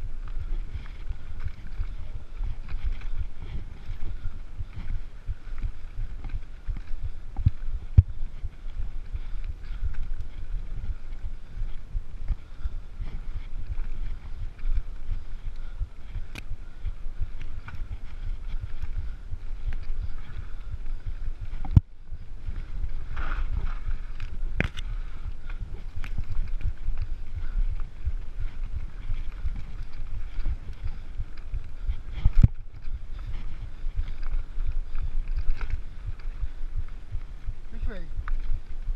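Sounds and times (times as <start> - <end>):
bike tyres rumbling on dirt: 0.0 - 38.9
wind buffeting microphone: 0.0 - 38.9.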